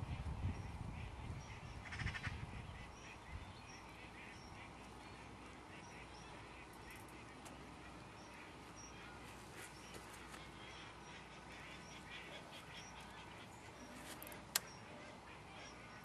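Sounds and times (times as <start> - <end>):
birds chirping: 0.0 - 16.0
low steady hiss: 0.0 - 16.0.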